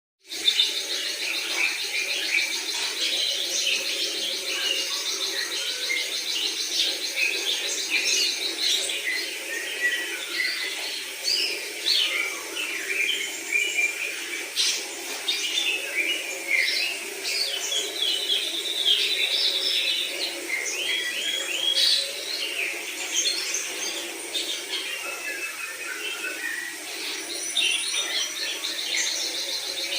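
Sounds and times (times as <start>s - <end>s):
bird singing chirps and trills: 0.2s - 29.9s.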